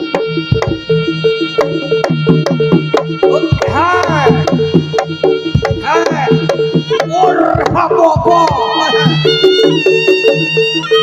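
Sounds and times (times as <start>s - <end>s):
sharp drum strokes: 0.0s - 10.0s
repeating stepping melody: 0.0s - 11.0s
steady held tone: 0.0s - 11.0s.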